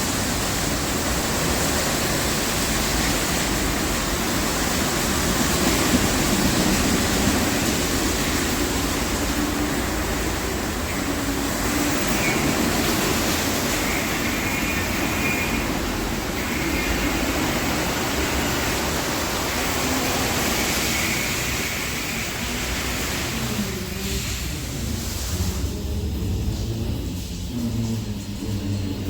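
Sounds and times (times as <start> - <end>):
car wash water spray and machinery: 0.0 - 29.0.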